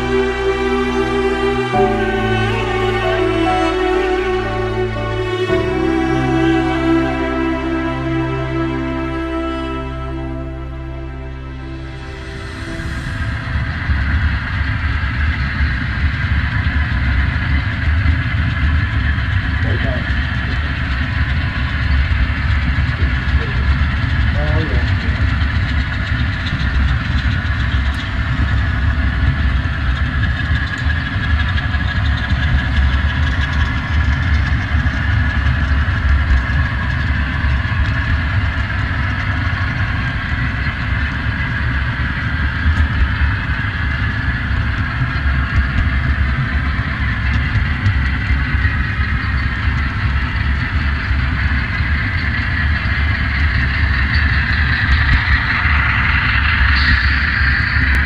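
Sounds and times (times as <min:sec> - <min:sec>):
constant higher hum: 0:00.0 - 0:58.0
train rumble: 0:00.0 - 0:58.0.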